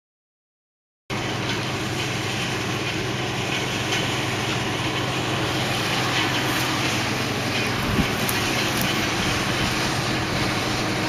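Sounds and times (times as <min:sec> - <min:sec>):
combine harvester running: 0:01.1 - 0:11.0.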